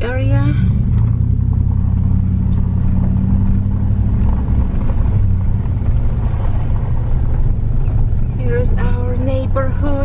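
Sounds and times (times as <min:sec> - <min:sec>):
vehicle rumbling over bumpy road: 0:00.0 - 0:10.0.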